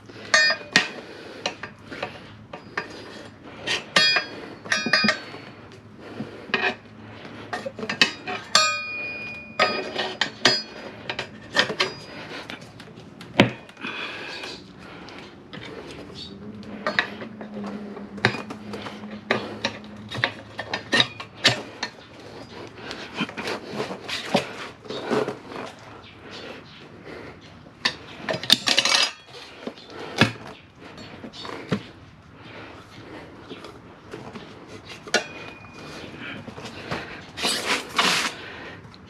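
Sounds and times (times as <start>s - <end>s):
tire levers clinking on wheel rim: 0.2s - 5.7s, 7.5s - 26.0s, 27.8s - 32.0s, 33.4s - 38.4s.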